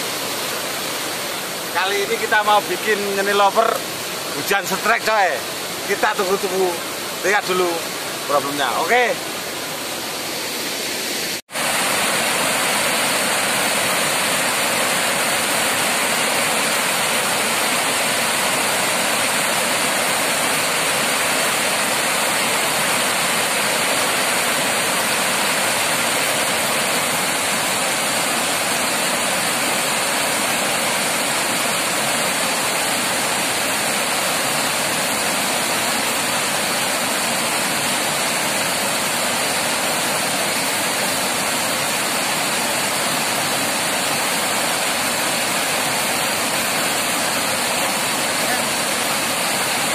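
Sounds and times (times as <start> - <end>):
water rushing over weir: 0.0 - 49.9.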